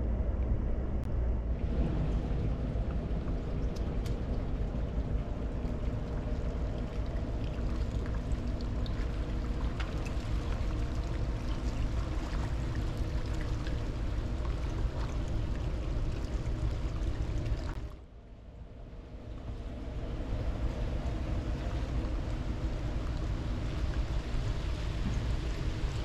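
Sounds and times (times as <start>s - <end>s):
boat engine rumble: 0.0s - 26.0s
rushing water: 1.5s - 17.9s, 19.4s - 26.0s.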